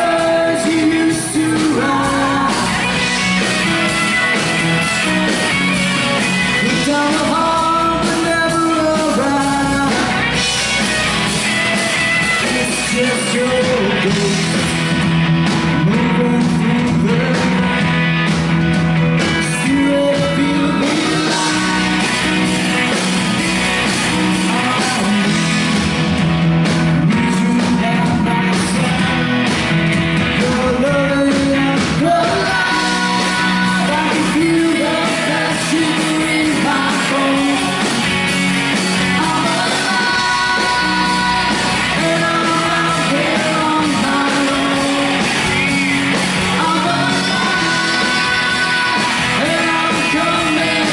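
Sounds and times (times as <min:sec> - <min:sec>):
person singing: 0:00.0 - 0:05.4, 0:06.2 - 0:10.4, 0:11.7 - 0:14.9, 0:15.7 - 0:17.9, 0:19.3 - 0:22.5, 0:24.2 - 0:25.7, 0:27.0 - 0:29.4, 0:30.3 - 0:38.2, 0:38.9 - 0:50.9
live rock band playing: 0:00.0 - 0:50.9.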